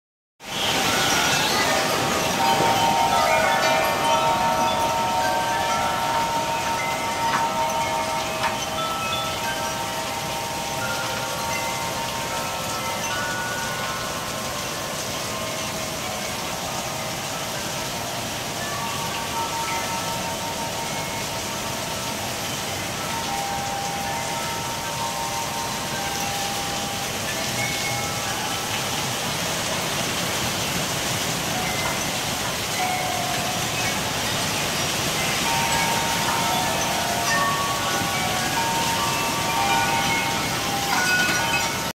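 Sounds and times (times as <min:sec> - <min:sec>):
heavy rain hiss: 0:00.4 - 0:41.9
strong wind: 0:00.4 - 0:41.9
wind chimes ringing: 0:00.4 - 0:41.9.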